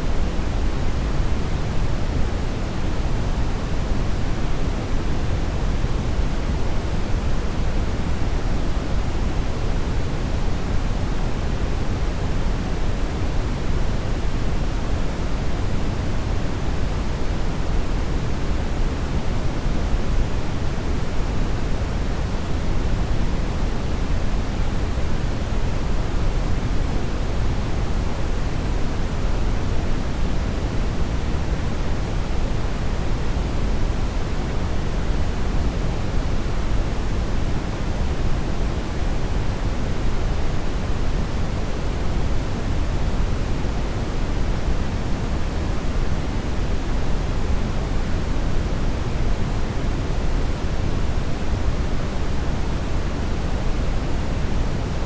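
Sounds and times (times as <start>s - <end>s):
brown noise hiss: 0.0s - 55.0s.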